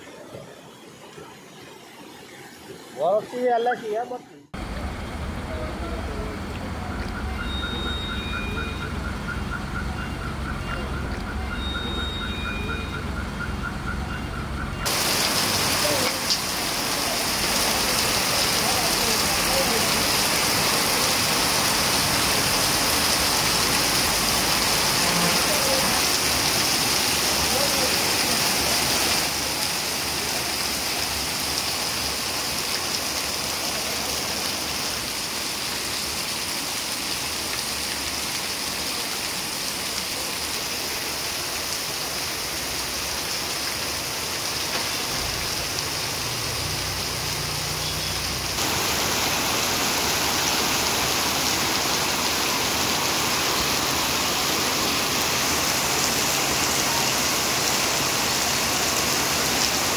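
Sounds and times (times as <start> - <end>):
heavy rain on road and rooftops: 0.0 - 59.9.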